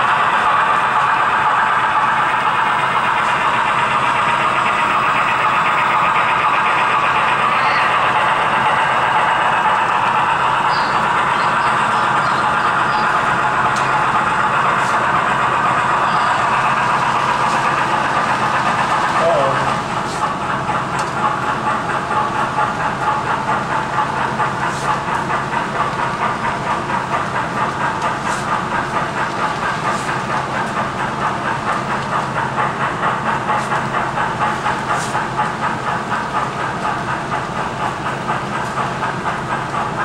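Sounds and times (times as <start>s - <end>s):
model train wheels clicking: 0.0s - 40.0s
steady low hum: 0.0s - 40.0s.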